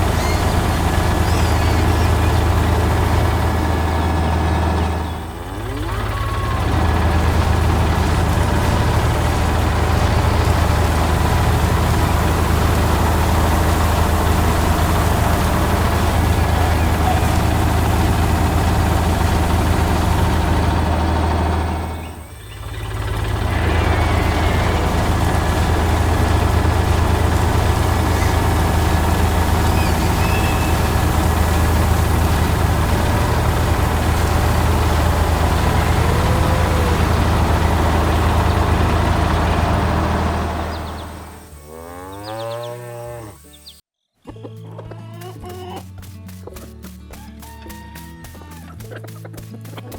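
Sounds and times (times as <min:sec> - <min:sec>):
tractor engine droning: 0:00.0 - 0:43.8.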